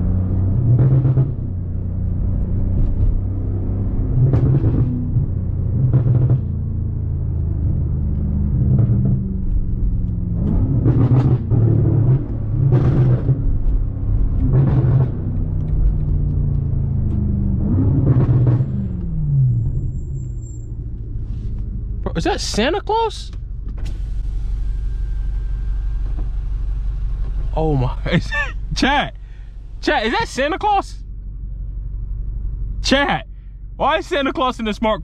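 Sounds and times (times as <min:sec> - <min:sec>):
car engine with throttle bursts: 0:00.0 - 0:35.0.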